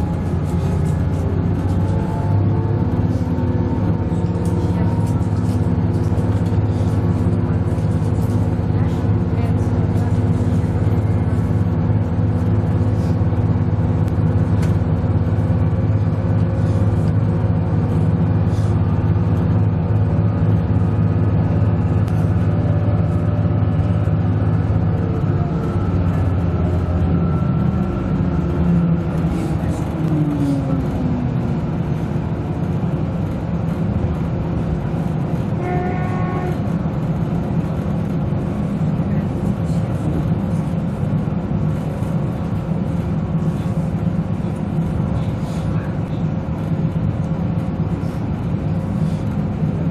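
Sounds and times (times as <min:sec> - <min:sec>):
diesel railcar engine drone: 0:00.0 - 0:49.9
train wheels on rails: 0:00.0 - 0:49.9.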